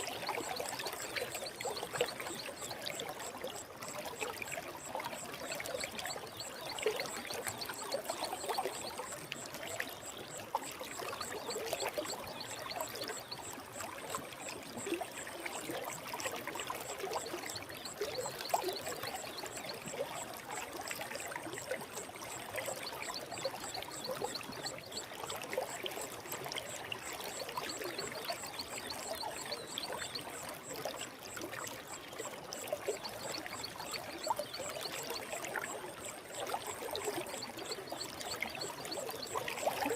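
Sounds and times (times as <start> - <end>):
stream gurgling and trickling: 0.0 - 39.9.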